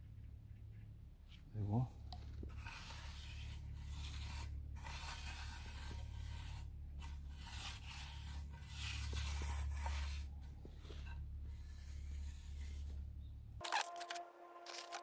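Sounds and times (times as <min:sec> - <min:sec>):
steady low hum: 0:00.0 - 0:13.6
trowel scraping wet mortar: 0:02.3 - 0:13.0, 0:13.6 - 0:15.0.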